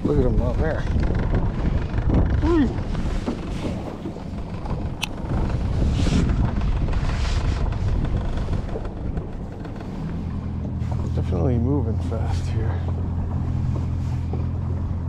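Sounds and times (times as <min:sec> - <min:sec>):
steady low hum: 0:00.0 - 0:15.0
wind rumbling on microphone: 0:00.0 - 0:15.0.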